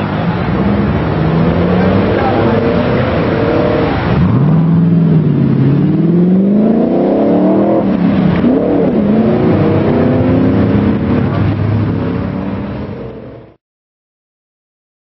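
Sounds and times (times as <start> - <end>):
car engine accelerating: 0.0 - 13.6.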